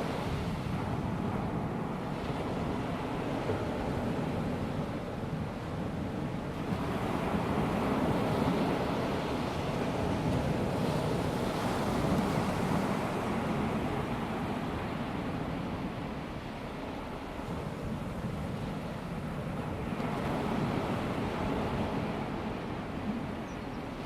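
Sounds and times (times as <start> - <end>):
small waves washing onto beach: 0.0 - 24.0.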